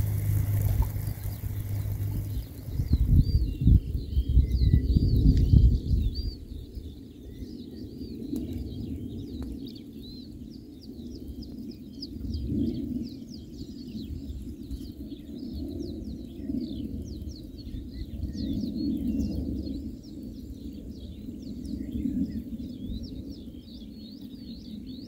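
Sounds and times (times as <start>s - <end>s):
songbirds chirping and trilling: 0.0s - 25.0s
wind rumble on microphone: 0.0s - 25.0s.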